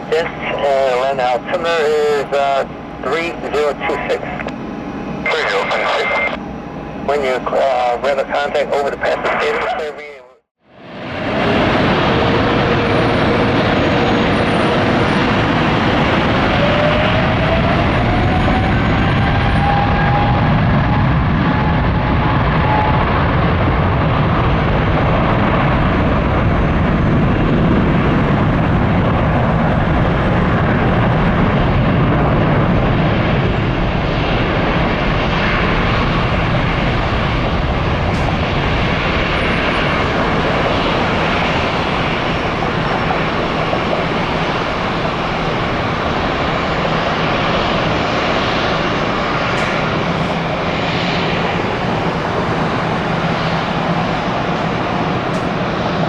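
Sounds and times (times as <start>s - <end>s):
jet engine whine: 0.0s - 56.0s
jet engines roaring: 0.0s - 56.0s.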